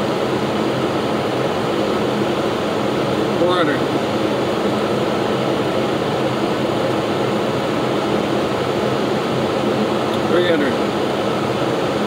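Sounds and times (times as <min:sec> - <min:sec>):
engine and propeller drone: 0:00.0 - 0:12.0.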